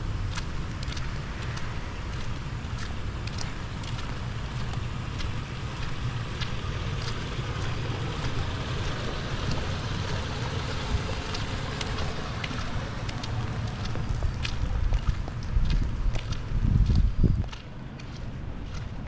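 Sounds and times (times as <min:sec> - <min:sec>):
steady rain hiss: 0:00.0 - 0:15.4
wind rumbling on microphone: 0:00.0 - 0:19.0.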